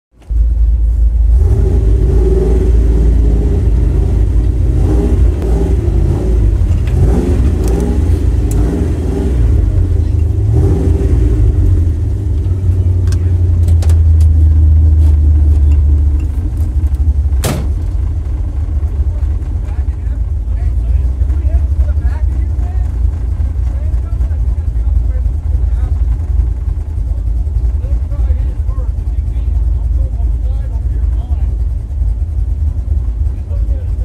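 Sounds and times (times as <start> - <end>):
truck engine revving: 0.2 - 34.0.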